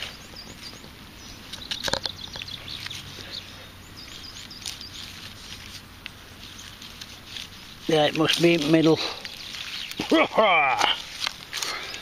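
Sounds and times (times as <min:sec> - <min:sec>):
knocks and scrapes of digging: 0:00.0 - 0:12.0
small birds chirping: 0:00.0 - 0:12.0.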